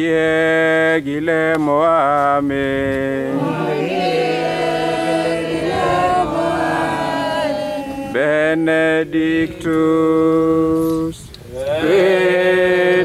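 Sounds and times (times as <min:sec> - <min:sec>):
congregation chanting: 0:00.0 - 0:11.0, 0:11.6 - 0:13.0.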